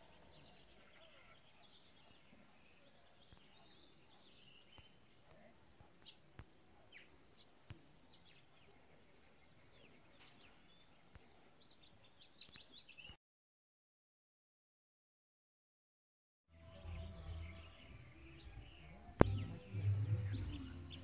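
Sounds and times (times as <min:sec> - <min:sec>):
small birds chirping: 0:00.0 - 0:13.2, 0:16.7 - 0:21.0.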